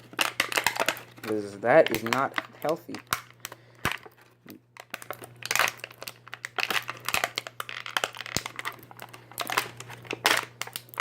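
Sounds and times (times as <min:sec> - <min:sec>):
packaging crinkling with clicks: 0:00.0 - 0:11.0.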